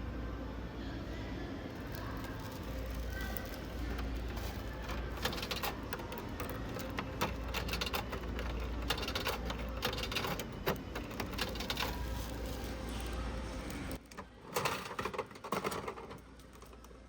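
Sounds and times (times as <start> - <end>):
low steady hum: 0.0 - 17.0
small hard items clicking: 1.8 - 17.0.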